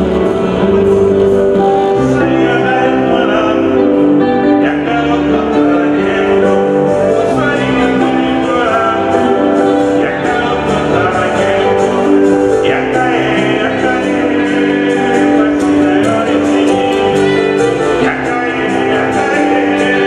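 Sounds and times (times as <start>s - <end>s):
music with singing voices: 0.0s - 20.0s.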